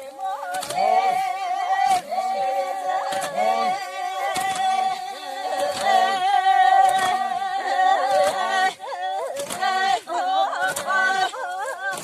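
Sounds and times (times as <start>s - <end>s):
unaccompanied folk singing: 0.0s - 12.0s.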